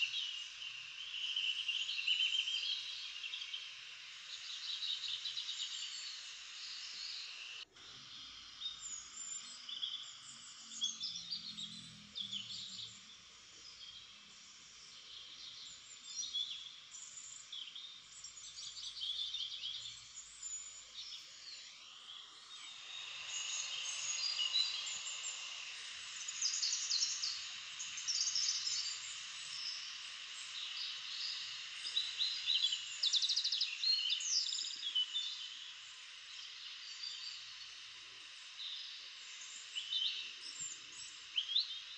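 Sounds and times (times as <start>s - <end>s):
small birds chirping and trilling: 0.0s - 41.9s
steady hiss: 0.0s - 41.9s.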